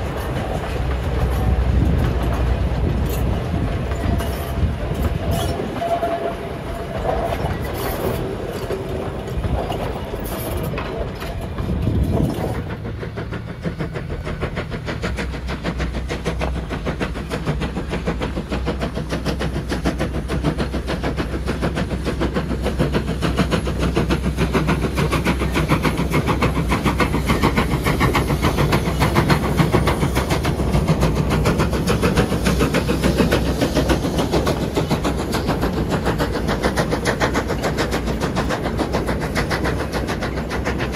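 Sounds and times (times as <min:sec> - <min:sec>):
steam locomotive exhaust beats: 0:00.0 - 0:40.9
train wheels clacking over rail joints: 0:00.0 - 0:40.9.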